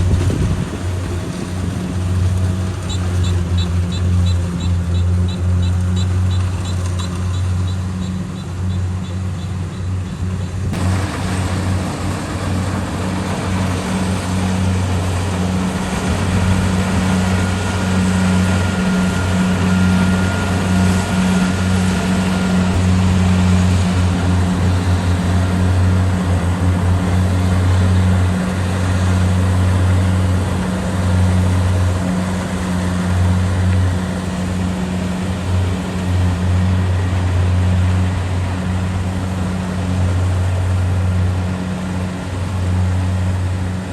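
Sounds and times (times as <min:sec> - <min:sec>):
broad machinery noise: 0:00.0 - 0:43.9
diesel engine droning: 0:00.0 - 0:43.9.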